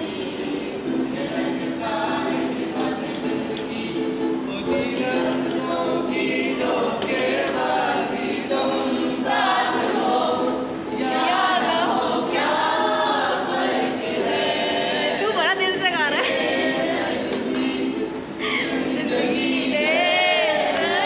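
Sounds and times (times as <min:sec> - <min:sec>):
group of voices singing: 0:00.0 - 0:21.0
ukulele playing: 0:00.0 - 0:21.0.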